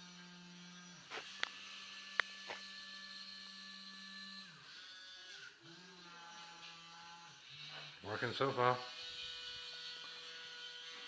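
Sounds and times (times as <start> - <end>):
small motors whirring: 0.0 - 11.0.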